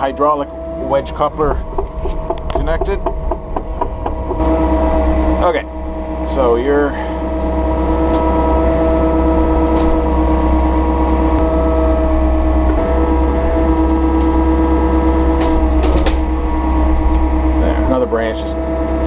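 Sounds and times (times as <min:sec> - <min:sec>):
excavator diesel engine under load: 0:00.0 - 0:19.0
hydraulic whine: 0:00.0 - 0:19.0.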